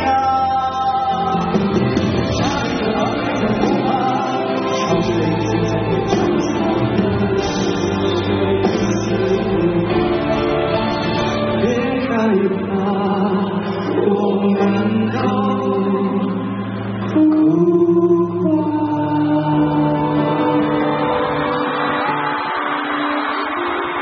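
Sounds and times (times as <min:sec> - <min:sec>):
men singing into microphones: 0:00.0 - 0:21.7
band accompaniment: 0:00.0 - 0:24.0.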